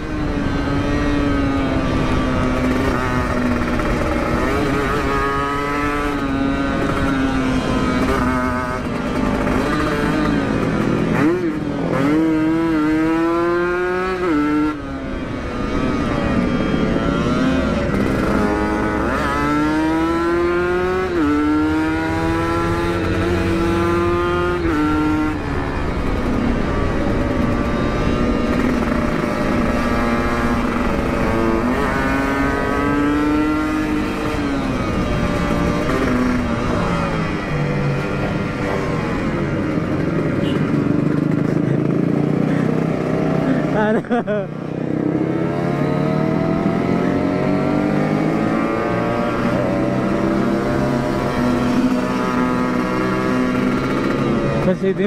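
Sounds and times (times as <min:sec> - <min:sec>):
motorcycle accelerating hard: 0:00.0 - 0:55.0.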